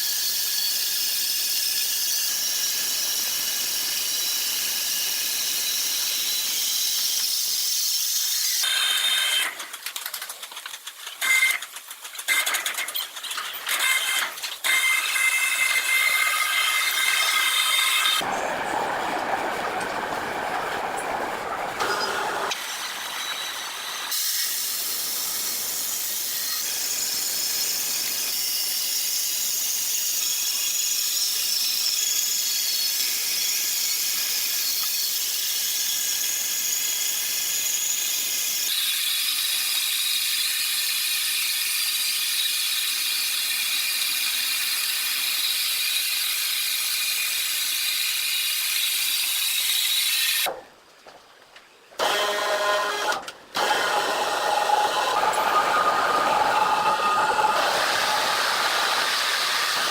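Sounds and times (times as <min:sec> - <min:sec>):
sawmill saw running: 0:00.0 - 0:09.6, 0:13.6 - 0:50.5, 0:52.0 - 0:59.9.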